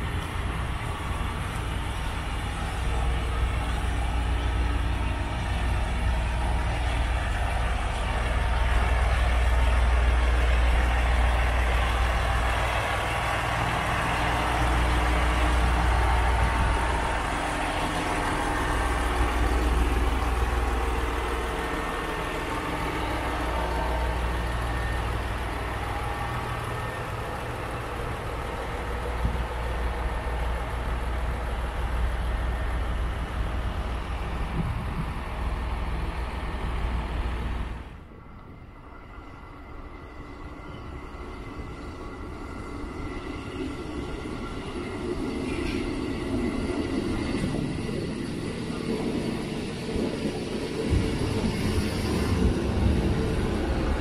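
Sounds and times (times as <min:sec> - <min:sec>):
train engine drone: 0:00.0 - 0:54.0.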